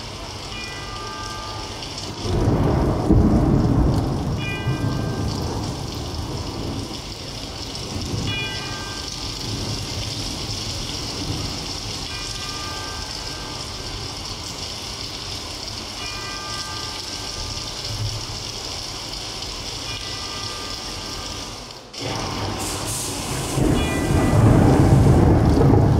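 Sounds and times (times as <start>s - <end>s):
rushing rain-like noise: 0.0s - 25.9s.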